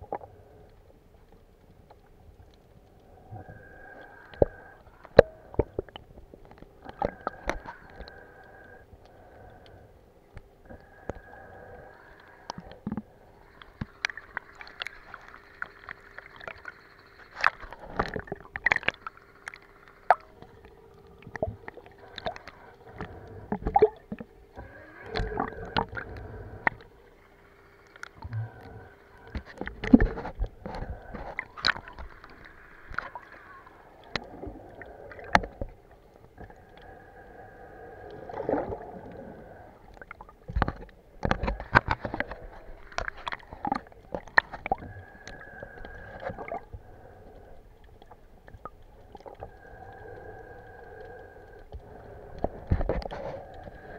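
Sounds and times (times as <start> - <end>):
faint steady hum: 0.0 - 53.9
water gurgling and sloshing: 0.0 - 53.9.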